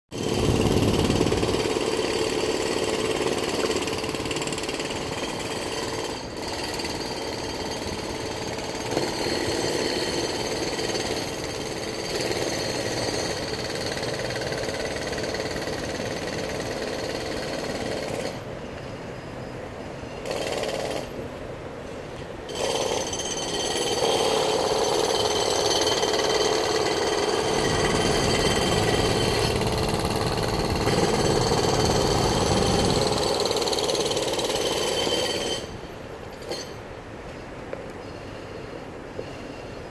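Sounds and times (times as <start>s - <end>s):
jackhammer hammering: 0.1s - 18.5s, 20.2s - 21.2s, 22.5s - 35.7s.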